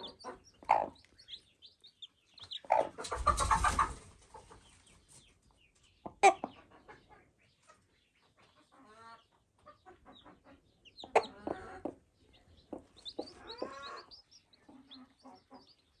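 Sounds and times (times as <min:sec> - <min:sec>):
hen clucking: 0:00.0 - 0:05.2, 0:05.9 - 0:16.0
chicks peeping: 0:00.0 - 0:16.0.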